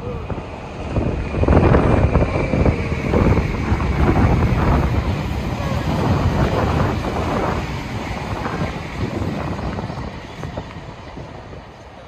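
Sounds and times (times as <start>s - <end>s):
electric train rumble: 0.0s - 12.0s
wind buffeting microphone: 0.0s - 12.0s.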